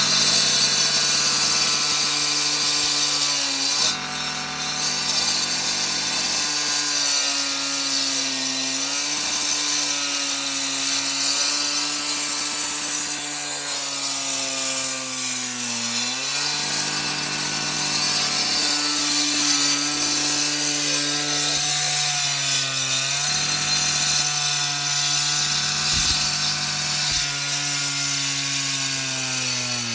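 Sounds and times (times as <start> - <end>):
concrete saw cutting: 0.0 - 29.9.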